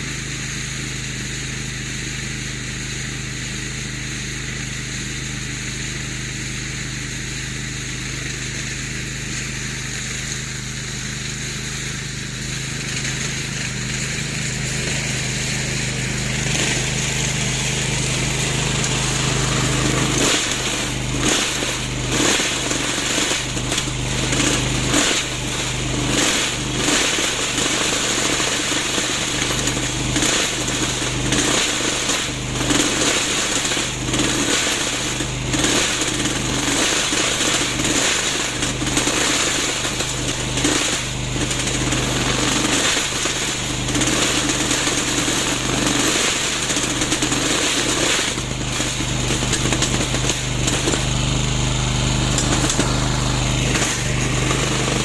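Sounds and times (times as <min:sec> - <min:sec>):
lawn mower motor running: 0:00.0 - 0:55.0.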